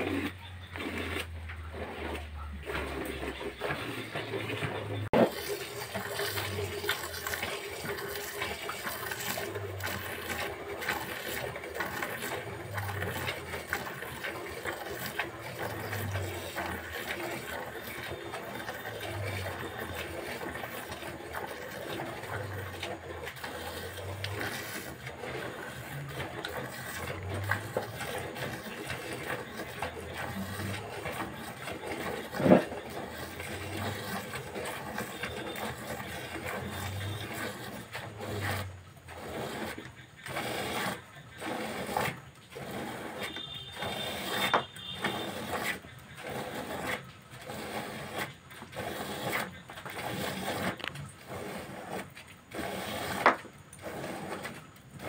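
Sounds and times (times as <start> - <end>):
milk squirting into bucket: 0.0 - 55.0.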